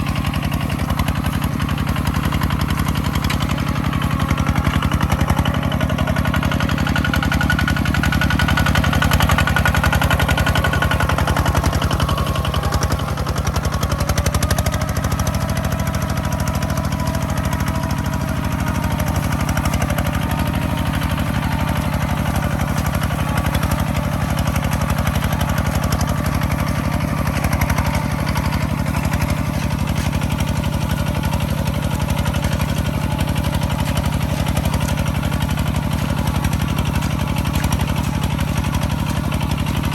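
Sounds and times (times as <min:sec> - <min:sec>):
farm machine engine running: 0:00.0 - 0:39.9.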